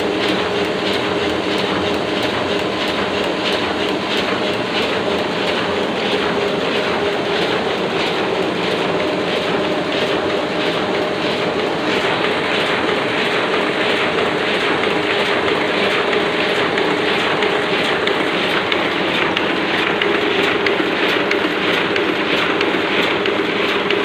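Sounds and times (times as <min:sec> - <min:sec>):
constant machine hum: 0:00.0 - 0:24.0
printing press clattering: 0:00.0 - 0:24.0.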